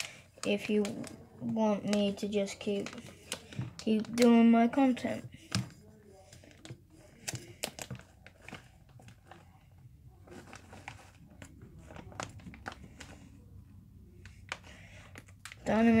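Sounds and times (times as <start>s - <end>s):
plastic snack packet crinkling: 0.0s - 13.4s.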